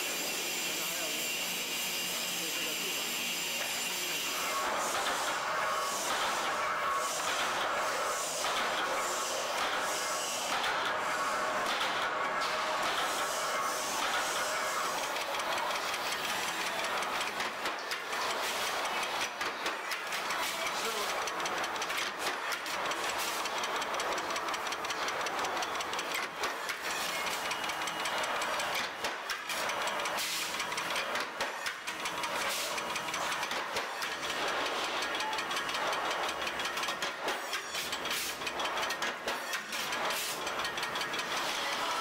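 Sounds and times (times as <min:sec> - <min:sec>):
metalworking machinery clattering: 0:03.4 - 0:42.0.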